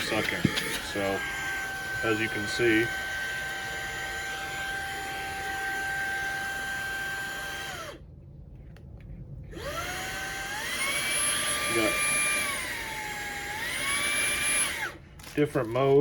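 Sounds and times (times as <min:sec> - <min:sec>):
air duster motor whining: 0:00.0 - 0:08.0, 0:09.5 - 0:16.0.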